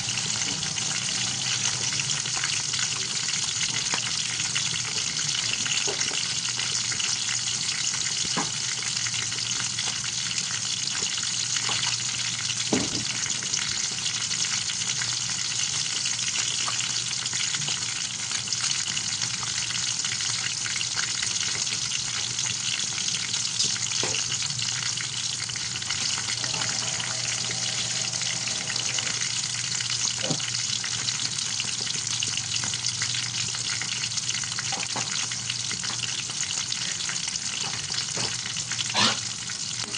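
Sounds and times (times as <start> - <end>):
fish sizzling in hot oil: 0.0 - 39.9
oil popping and crackling: 0.0 - 39.9.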